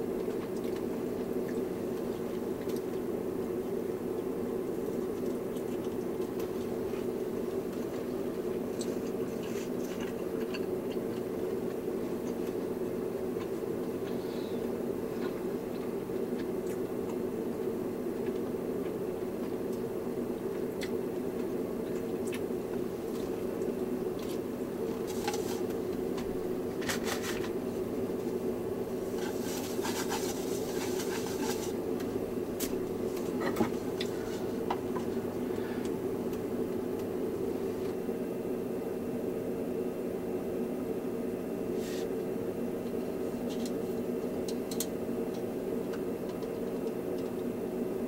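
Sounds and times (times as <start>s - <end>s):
low fan hum: 0.0s - 48.0s.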